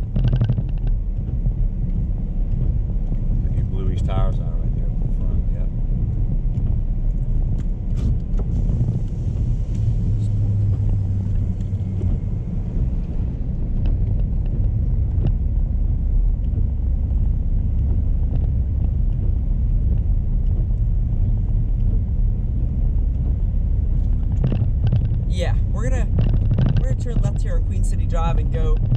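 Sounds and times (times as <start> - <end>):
engine and tyre rumble: 0.0 - 28.9
low hum: 0.0 - 28.9.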